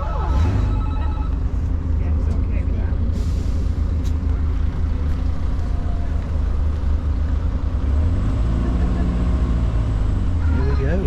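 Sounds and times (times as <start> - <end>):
ride train rumbling: 0.0 - 11.0.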